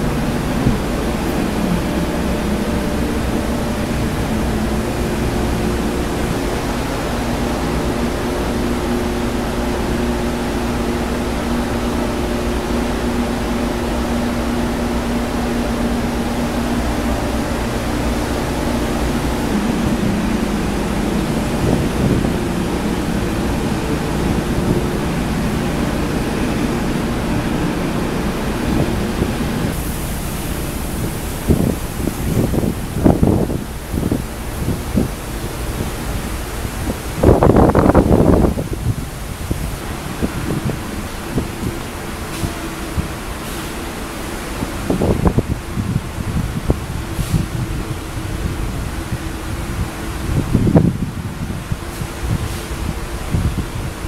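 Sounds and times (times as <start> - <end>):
ship machinery drone: 0.0 - 54.0
wind and sea rushing: 0.0 - 54.0.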